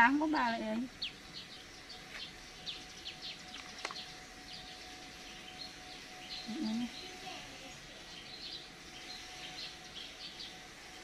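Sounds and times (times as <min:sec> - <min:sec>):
faint steady hum: 0:00.0 - 0:11.0
small birds chirping: 0:00.0 - 0:11.0.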